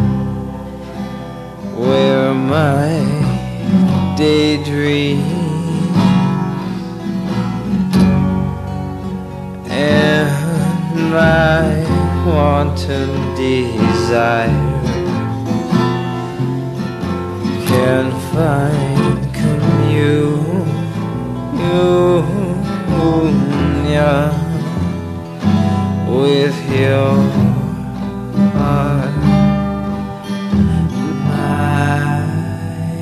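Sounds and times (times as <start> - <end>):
acoustic guitar song: 0.0 - 33.0
steady bass line: 0.0 - 33.0.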